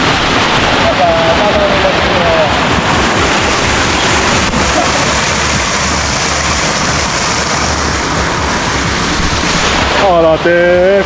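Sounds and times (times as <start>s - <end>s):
rushing flowing water: 0.0s - 11.0s.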